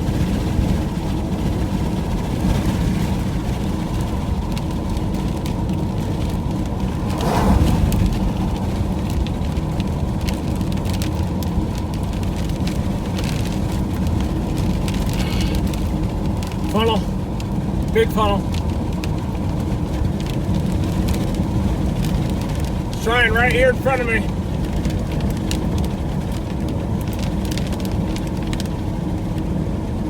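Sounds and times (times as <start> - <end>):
vehicle road and engine noise: 0.0 - 30.0
light ticks and crackles: 0.1 - 30.0.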